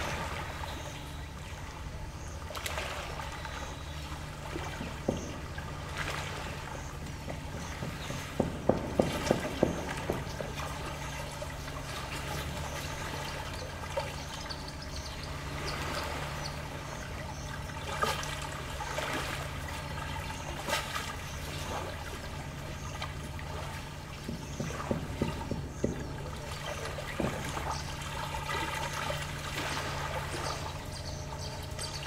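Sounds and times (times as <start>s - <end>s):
low hum: 0.0s - 32.0s
small waves lapping on shore: 0.0s - 32.0s
water splashes: 0.0s - 32.0s.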